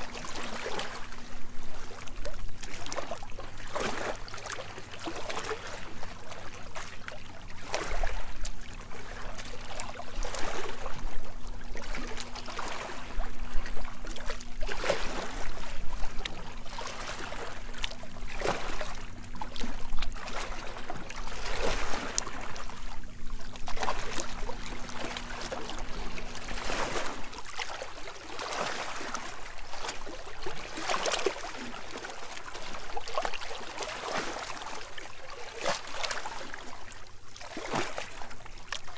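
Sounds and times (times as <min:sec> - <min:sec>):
faint low hum: 0:00.0 - 0:38.9
seawater lapping over rocks: 0:00.0 - 0:38.9.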